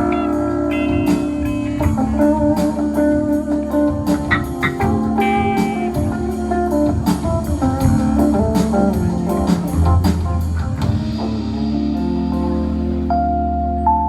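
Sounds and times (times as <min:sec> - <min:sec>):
electric guitar: 0:00.0 - 0:14.0
live band playing: 0:00.0 - 0:14.0.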